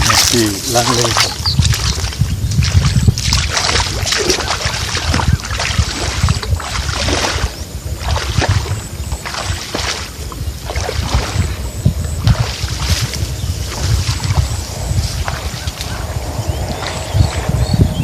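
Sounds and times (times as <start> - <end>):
water sloshing and splashing: 0.0 - 17.6.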